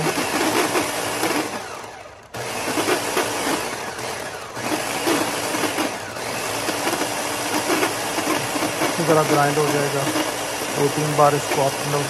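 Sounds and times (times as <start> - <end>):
blender grinding: 0.0 - 12.0.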